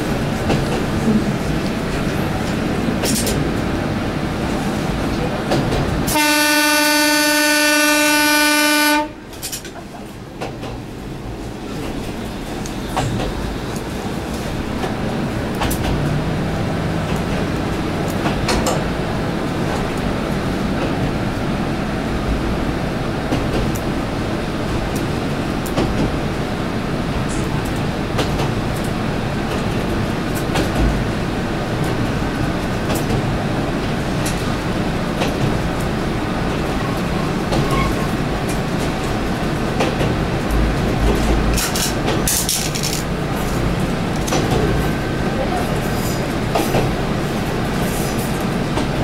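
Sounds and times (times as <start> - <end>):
diesel railcar engine and wheel rumble: 0.0 - 49.0.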